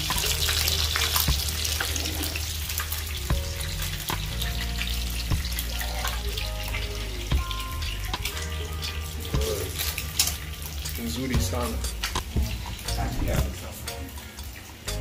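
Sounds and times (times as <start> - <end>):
hot oil sizzling in a frying pan: 0.0 - 15.0.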